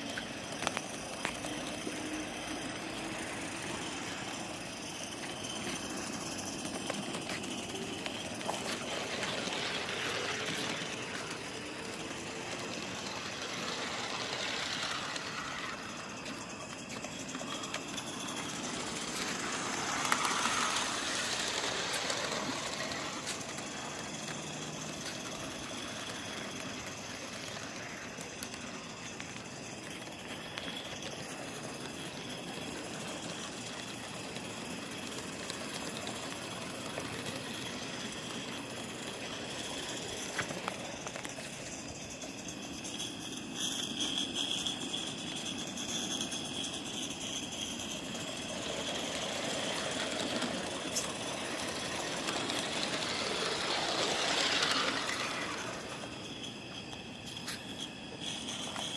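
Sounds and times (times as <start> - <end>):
model steam locomotive hissing: 0.0 - 58.9.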